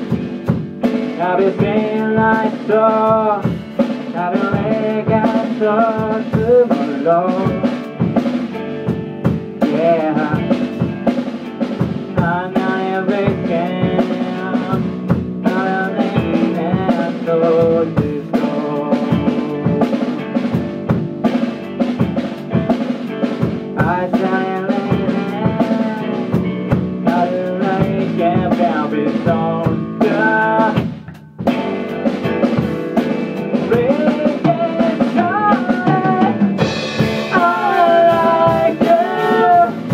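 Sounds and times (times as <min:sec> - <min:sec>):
drum kit beat: 0:00.0 - 0:39.9
guitar: 0:00.0 - 0:39.9
rock band playing: 0:00.0 - 0:39.9.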